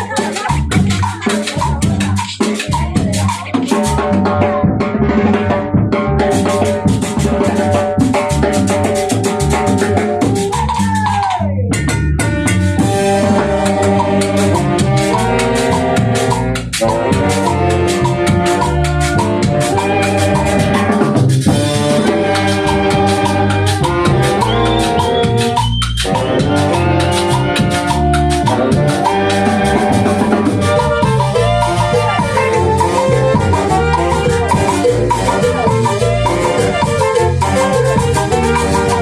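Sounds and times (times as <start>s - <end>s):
band playing dance music: 0.0s - 39.0s
bass line: 0.0s - 39.0s
drum kit beat: 0.0s - 39.0s.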